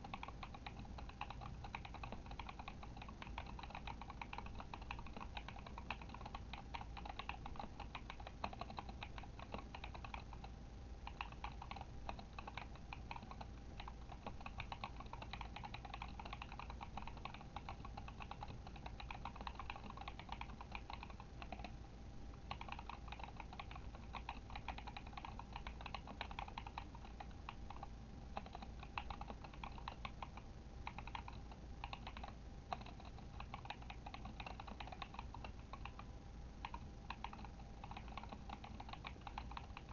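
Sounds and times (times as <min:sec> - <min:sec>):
mechanical keyboard typing: 0:00.0 - 0:21.8, 0:22.4 - 0:39.9.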